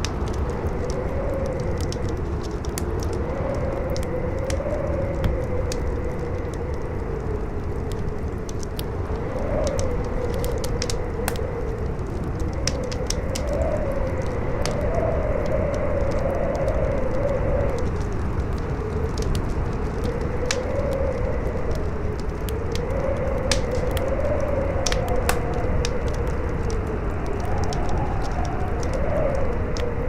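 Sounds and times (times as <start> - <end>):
campfire crackling and popping: 0.0 - 30.0
howling wind: 0.0 - 30.0.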